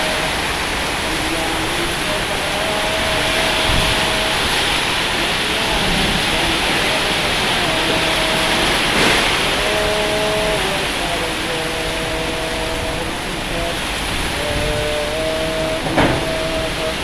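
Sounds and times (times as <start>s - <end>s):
heavy rain pouring: 0.0s - 17.0s
held musical tones: 0.0s - 17.0s.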